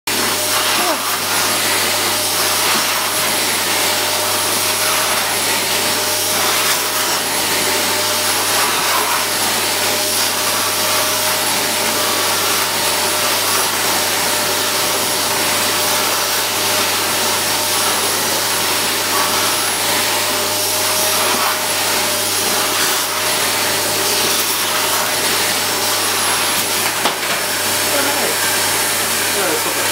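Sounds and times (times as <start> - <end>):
vacuum cleaner running: 0.1 - 29.9.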